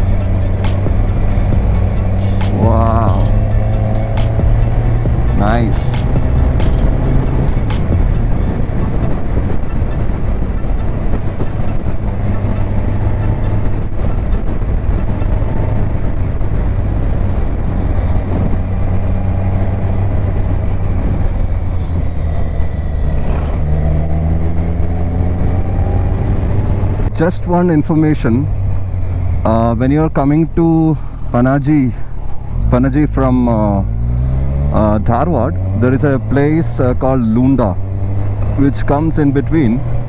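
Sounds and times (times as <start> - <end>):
motorcycle engine running: 0.0 - 40.0
wind rush: 0.0 - 40.0.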